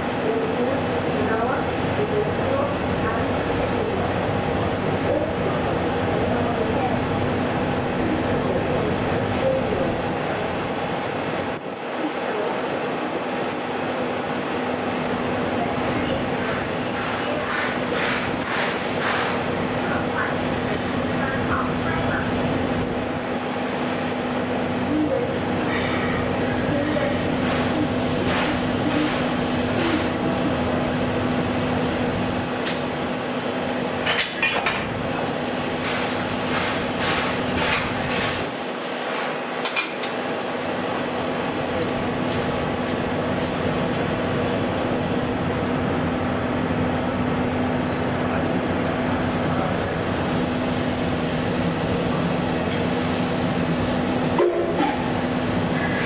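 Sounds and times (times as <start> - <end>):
locomotive hum and hiss: 0.0 - 56.0.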